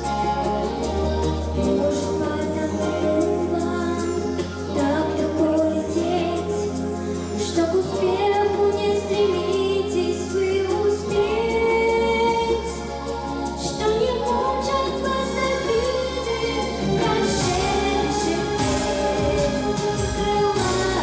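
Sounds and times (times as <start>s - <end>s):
girl singing pop ballad: 0.0s - 21.0s
instrumental backing track: 0.0s - 21.0s.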